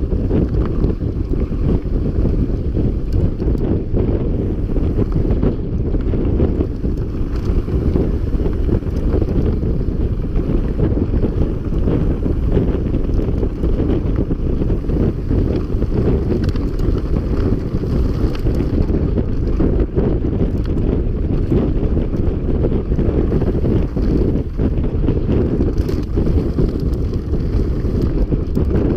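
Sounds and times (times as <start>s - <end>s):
bike ticks and rattles: 0.0s - 28.9s
wind buffeting microphone: 0.0s - 28.9s.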